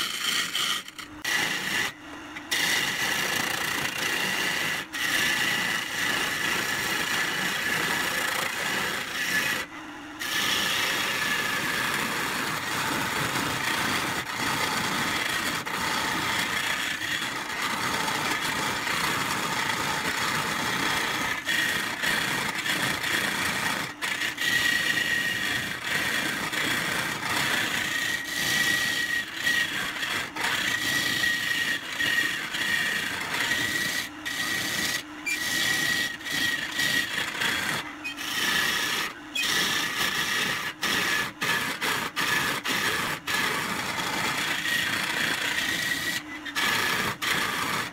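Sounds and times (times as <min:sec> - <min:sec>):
chisel scraping spinning wood: 0:00.0 - 0:47.9
lathe high whine: 0:00.0 - 0:47.9.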